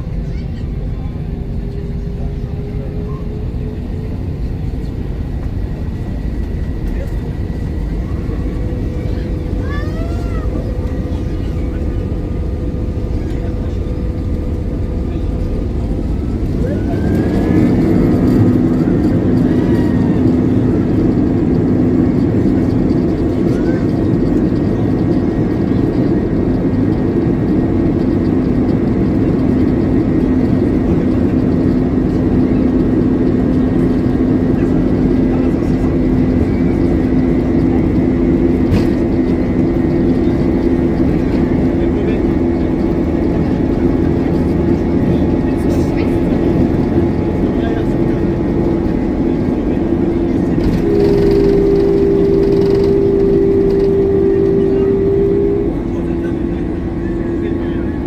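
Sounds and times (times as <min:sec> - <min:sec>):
jet engines at takeoff thrust: 0:00.0 - 0:58.0
low hum: 0:00.0 - 0:58.0.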